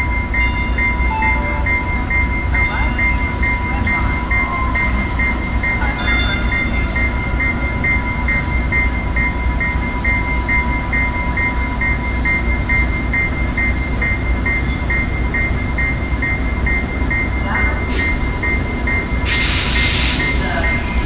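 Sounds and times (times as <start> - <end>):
diesel train idling rumble: 0.0 - 21.0
train bell ringing: 0.0 - 21.0.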